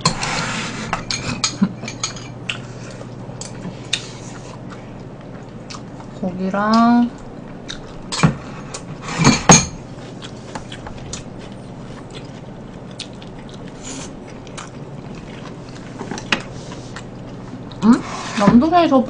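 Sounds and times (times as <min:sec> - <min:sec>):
soft chewing: 0:01.1 - 0:09.0, 0:09.8 - 0:18.0.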